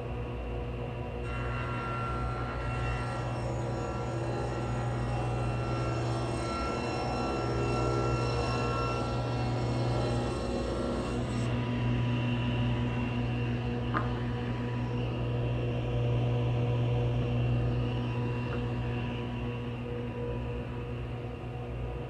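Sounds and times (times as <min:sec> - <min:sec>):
table saw running: 0:01.2 - 0:20.4.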